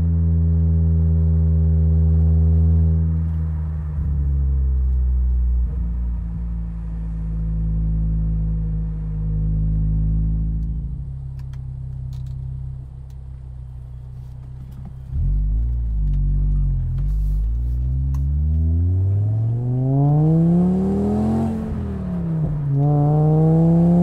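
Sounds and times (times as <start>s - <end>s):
five-cylinder engine exhaust: 0.0s - 24.0s.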